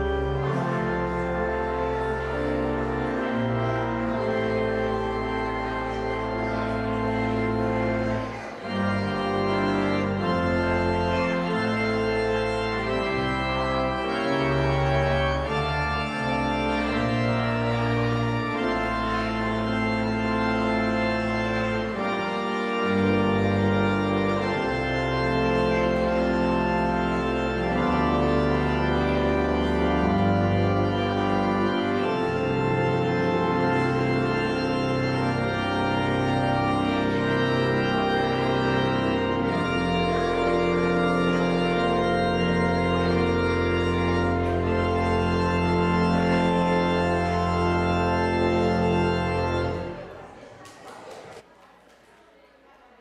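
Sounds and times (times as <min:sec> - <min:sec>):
church organ playing chords: 0:00.0 - 0:50.4.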